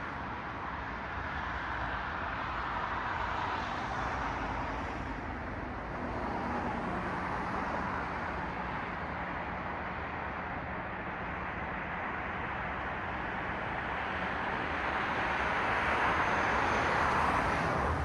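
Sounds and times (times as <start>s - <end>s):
cars passing on street: 0.1s - 18.0s.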